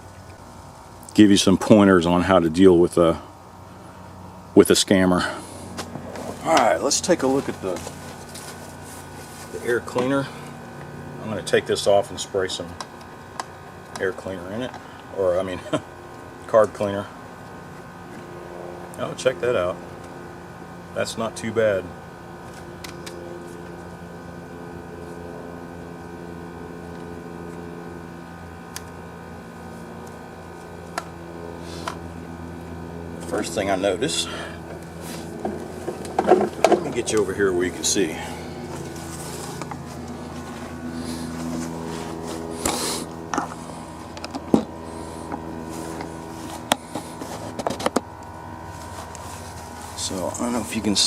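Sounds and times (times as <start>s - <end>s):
mechanical hum: 0.0s - 51.0s.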